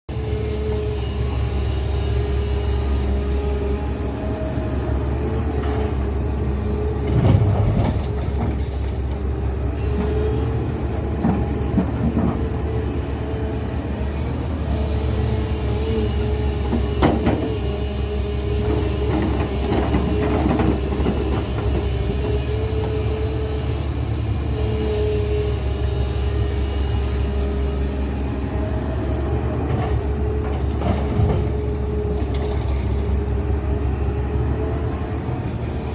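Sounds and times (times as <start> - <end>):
diesel engine whining: 0.1 - 35.9.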